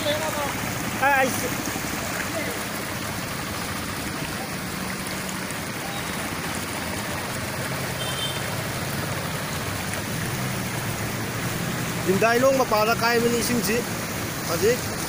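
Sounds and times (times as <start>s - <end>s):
floodwater rushing across street: 0.0s - 15.0s.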